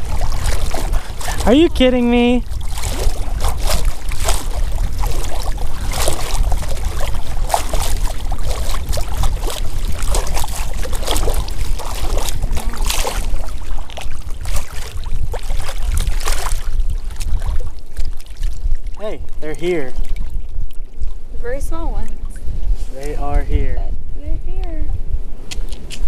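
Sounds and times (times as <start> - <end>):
water splashing: 0.0 - 23.5
wind rumble on microphone: 0.0 - 26.0.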